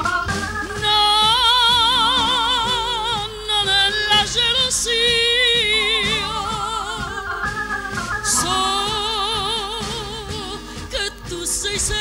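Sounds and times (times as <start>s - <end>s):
live band sustained chords: 0.0s - 12.0s
woman singing with vibrato: 0.0s - 12.0s.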